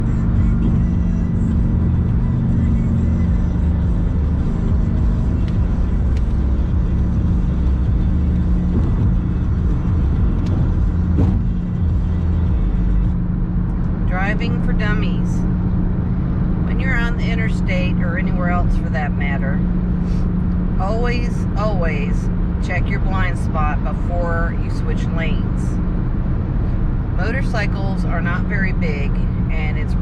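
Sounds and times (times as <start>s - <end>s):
car driving road noise: 0.0s - 30.0s.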